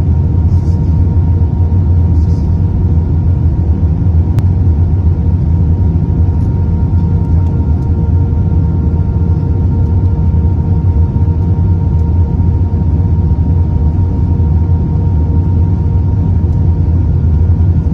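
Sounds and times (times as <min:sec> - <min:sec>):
airliner low rumble: 0:00.0 - 0:17.9
constant hum tone: 0:00.0 - 0:17.9.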